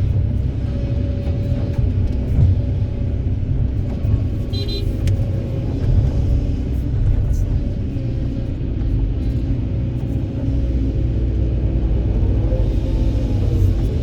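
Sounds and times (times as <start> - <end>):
excavator diesel engine rumbling: 0.0 - 14.0.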